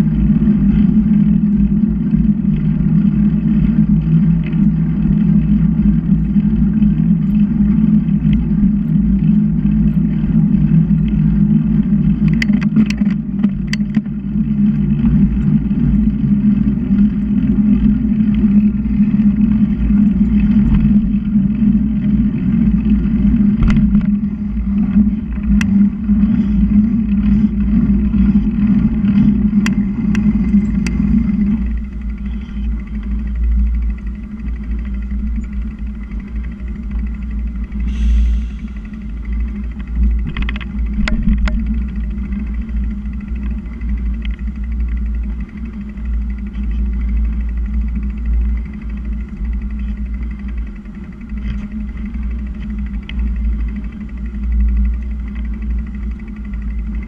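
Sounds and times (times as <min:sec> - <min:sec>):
wind on microphone: 0:00.0 - 0:47.8
bicycle road rumble: 0:00.0 - 0:57.0.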